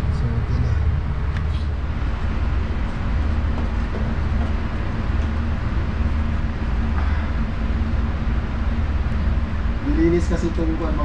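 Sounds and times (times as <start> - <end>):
refrigerator compressor humming: 0.0 - 11.0.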